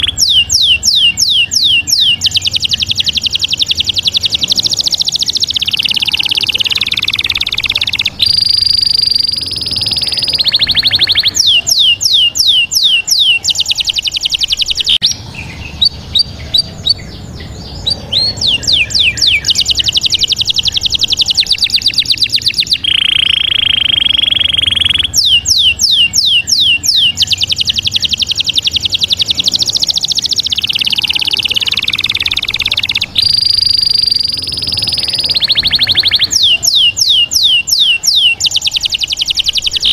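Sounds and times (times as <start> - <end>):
steady whistle-like tone: 0.0 - 15.0, 18.2 - 39.9
rapid high chirps and trills: 0.0 - 39.9.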